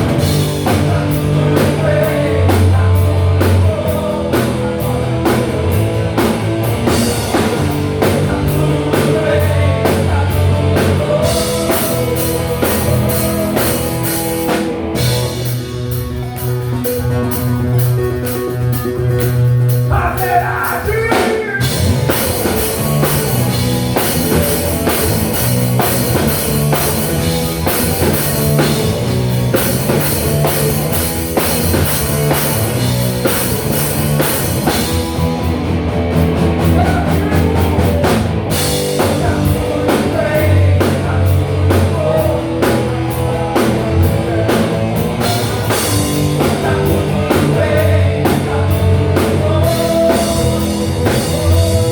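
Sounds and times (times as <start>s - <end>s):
live rock band playing: 0.0s - 51.9s
person singing: 0.2s - 6.3s, 7.2s - 30.9s, 36.6s - 51.9s.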